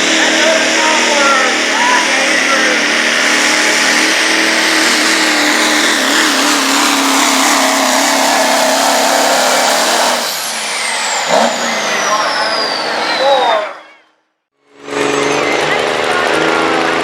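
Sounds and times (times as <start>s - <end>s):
diesel truck engine at full throttle: 0.0s - 17.0s.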